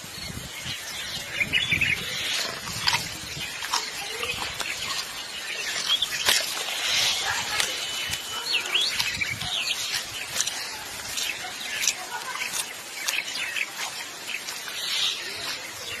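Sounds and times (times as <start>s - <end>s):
small birds chirping: 0.0s - 16.0s
steady outdoor hiss: 0.0s - 16.0s.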